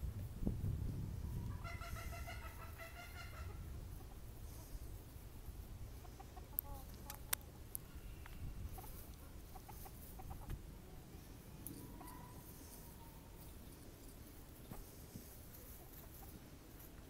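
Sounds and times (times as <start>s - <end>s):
chickens clucking: 1.3s - 17.0s.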